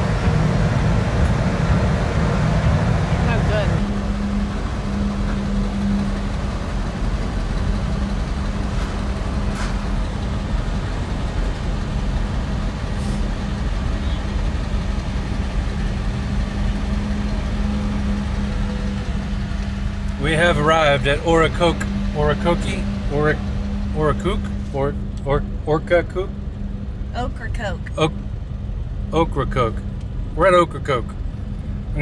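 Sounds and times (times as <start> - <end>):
constant low hum: 0.0 - 32.0
low engine drone: 0.0 - 32.0.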